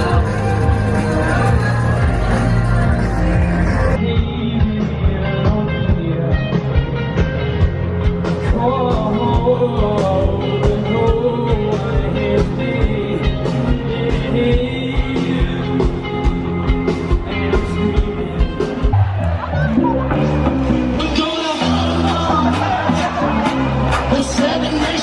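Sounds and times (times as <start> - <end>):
live rock music with singer: 0.0 - 25.0.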